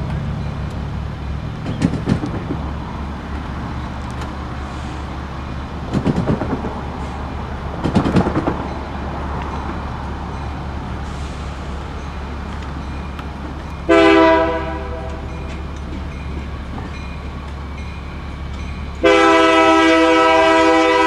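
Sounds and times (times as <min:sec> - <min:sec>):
distant locomotives rumbling: 0:00.0 - 0:21.0.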